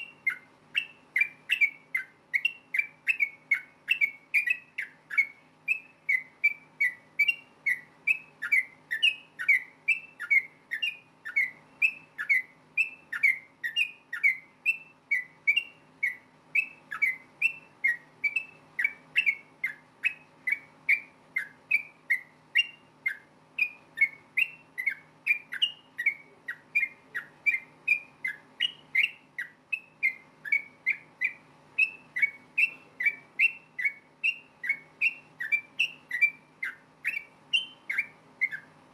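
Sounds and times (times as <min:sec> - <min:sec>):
bulbul whistled chirps: 0:00.0 - 0:38.9
faint steady hum: 0:00.0 - 0:38.9.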